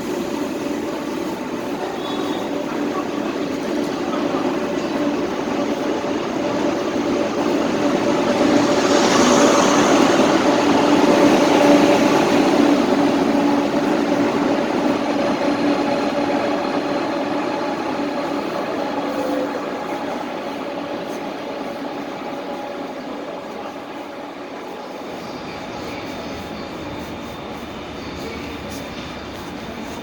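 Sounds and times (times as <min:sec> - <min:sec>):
high-speed train rushing: 0:00.0 - 0:30.0.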